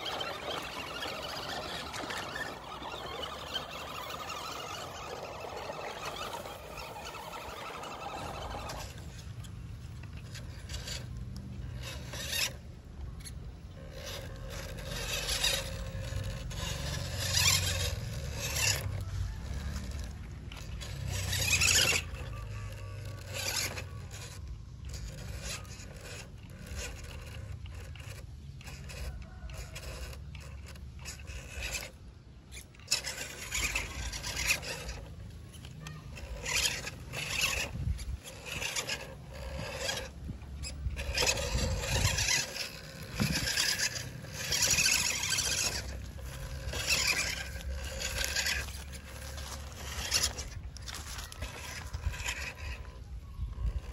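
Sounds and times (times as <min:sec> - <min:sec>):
small electric motor whirring: 0:00.0 - 0:53.9
tyres churning through mud: 0:00.0 - 0:53.9.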